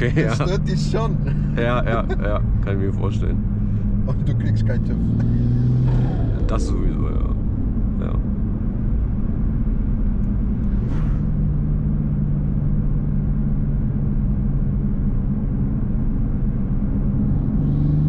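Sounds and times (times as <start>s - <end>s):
car engine droning: 0.0s - 18.0s
road rumble: 0.0s - 18.0s.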